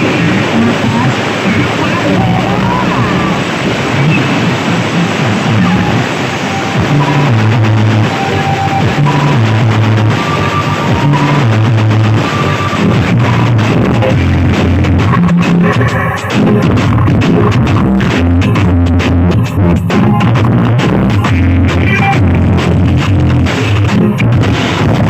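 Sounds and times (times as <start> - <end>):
loud music with heavy bass: 0.0 - 25.0.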